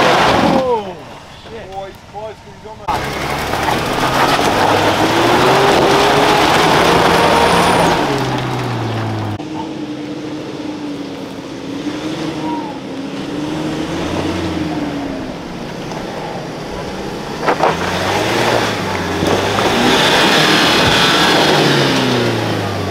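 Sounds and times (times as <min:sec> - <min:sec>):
quieter four-wheel drive engine: 0:00.0 - 0:22.9
truck engine revving under load: 0:02.8 - 0:22.9.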